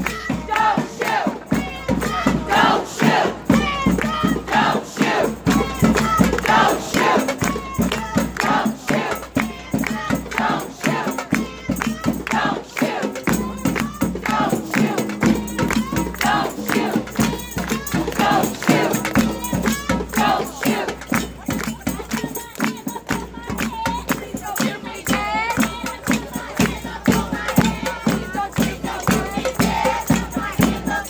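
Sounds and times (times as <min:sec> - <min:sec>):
crowd chanting: 0:00.0 - 0:31.0
sharp rhythmic beats: 0:00.0 - 0:31.0.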